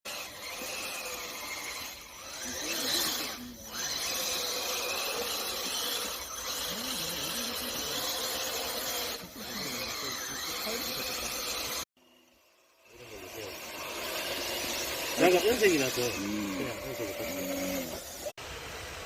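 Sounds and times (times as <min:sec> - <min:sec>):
toy car motor whining: 0:00.1 - 0:19.0.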